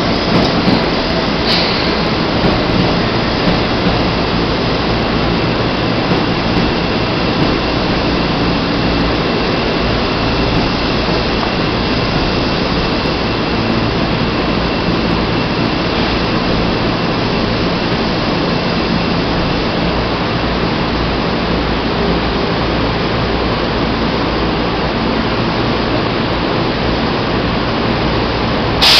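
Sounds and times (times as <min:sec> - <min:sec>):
electric train equipment hum: 0:00.0 - 0:28.9.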